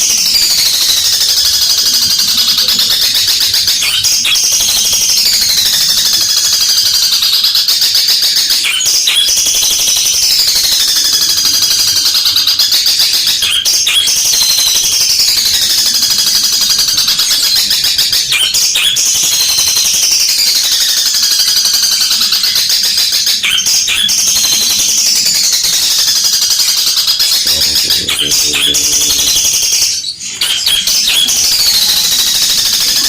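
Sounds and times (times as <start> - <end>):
bird singing rattling chatter: 0.0 - 33.0.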